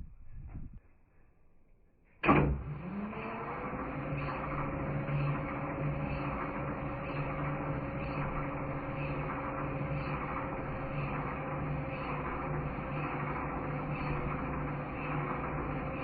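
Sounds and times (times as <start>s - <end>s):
mechanical hum: 2.2s - 16.0s.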